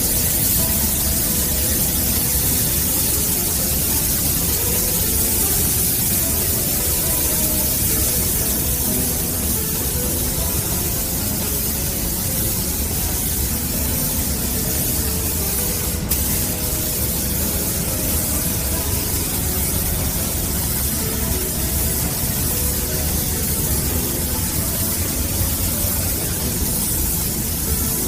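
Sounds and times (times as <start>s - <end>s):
hissing air noise: 0.0s - 28.0s.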